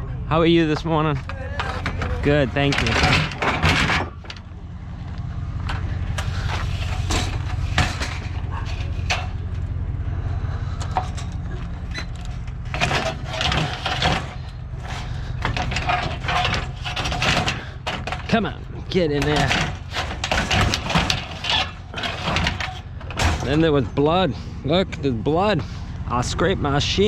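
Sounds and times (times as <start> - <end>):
vehicle engine idling: 0.0 - 27.0
scrap metal clattering: 1.1 - 24.6.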